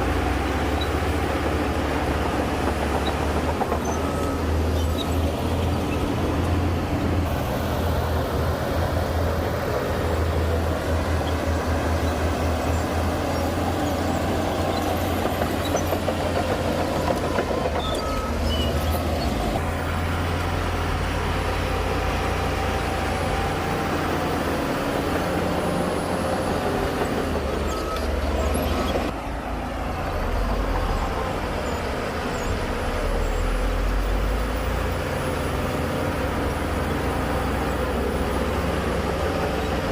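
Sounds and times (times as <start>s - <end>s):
diesel earthmoving machinery rumbling: 0.0s - 39.9s.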